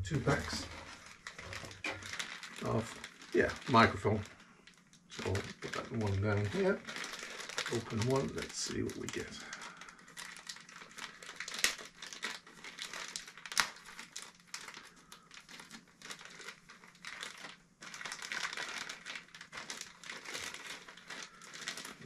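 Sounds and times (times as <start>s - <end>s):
plastic packet crinkling: 0.1s - 22.0s.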